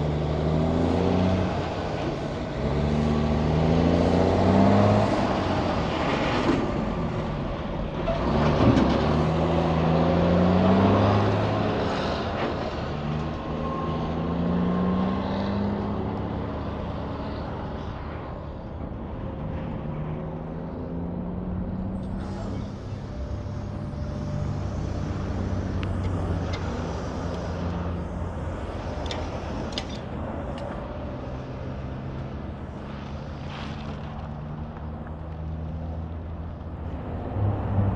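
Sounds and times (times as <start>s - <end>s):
traffic drone: 0.0s - 37.9s
trucks driving past: 0.0s - 37.9s.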